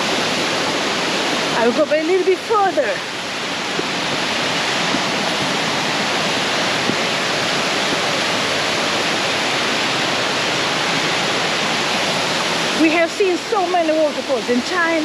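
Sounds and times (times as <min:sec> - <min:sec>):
waterfall pouring into a pool: 0:00.0 - 0:15.0.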